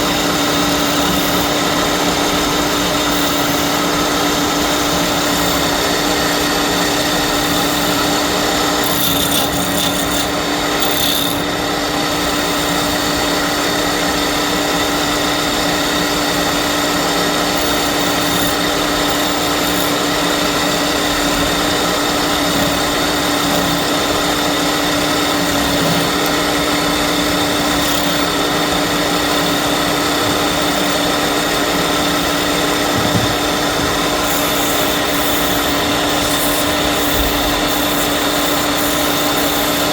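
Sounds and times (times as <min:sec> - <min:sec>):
tool scraping spinning wood: 0:00.0 - 0:14.0, 0:14.8 - 0:39.9
wood lathe motor hum: 0:00.0 - 0:39.9.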